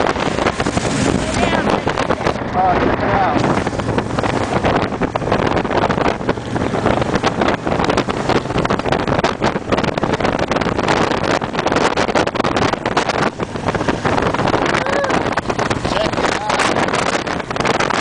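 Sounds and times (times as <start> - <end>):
motorcycle engines running: 0.0 - 18.0
wind buffeting on microphone: 0.0 - 18.0.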